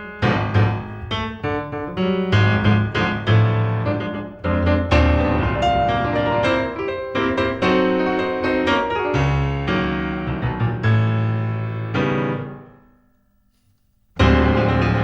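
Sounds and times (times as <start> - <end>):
solo piano: 0.0 - 13.0, 14.2 - 15.0.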